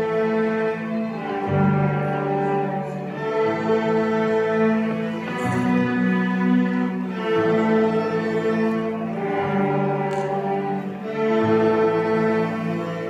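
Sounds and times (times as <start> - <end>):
string orchestra bowed notes: 0.0 - 13.0.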